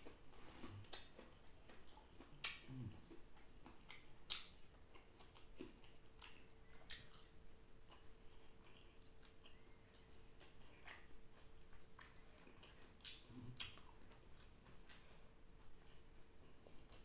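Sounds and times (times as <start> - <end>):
faint steady hum: 0.0 - 17.0
person chewing food: 0.0 - 17.0.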